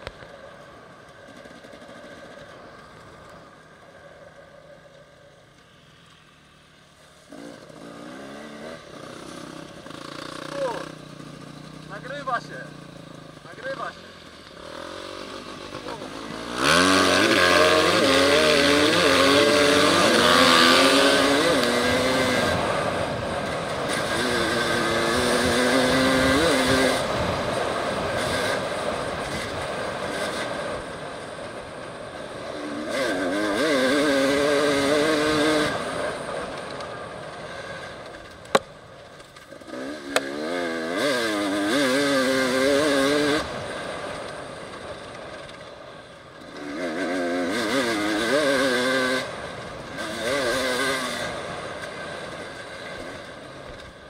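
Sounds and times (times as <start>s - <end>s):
wind and track noise: 0.0s - 54.0s
dirt bike engine revving: 1.1s - 3.6s, 6.8s - 54.0s.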